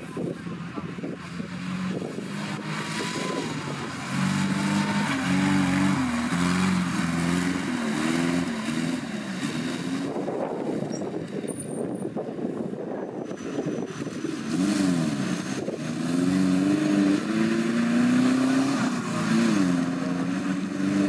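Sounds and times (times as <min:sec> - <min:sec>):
off-road vehicle engine revving: 0:00.0 - 0:12.4, 0:13.2 - 0:21.0.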